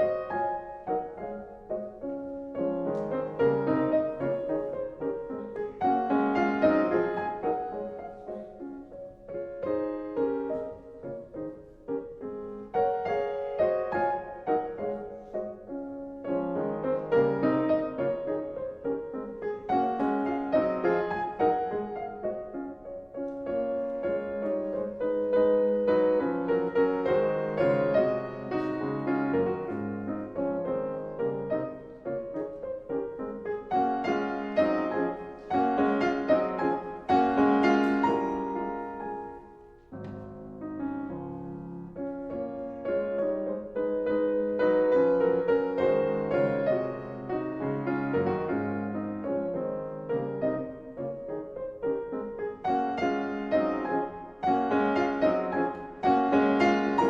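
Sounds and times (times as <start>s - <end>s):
slow gentle solo piano: 0.0s - 57.0s.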